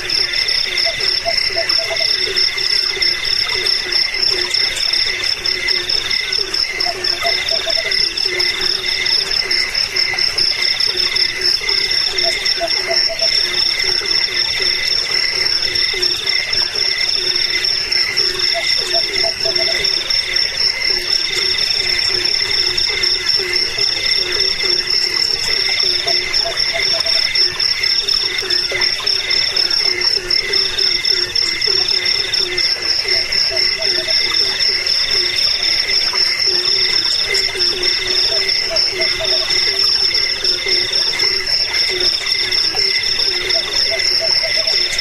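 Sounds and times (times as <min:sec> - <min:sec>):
crickets and insects trilling: 0:00.0 - 0:45.0
frog croaking: 0:00.0 - 0:45.0.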